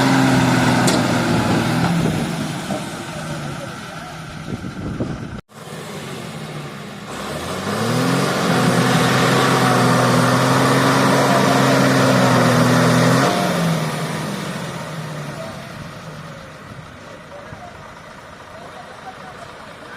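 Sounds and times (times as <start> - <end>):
heavy vehicle engine revving: 0.0 - 19.9.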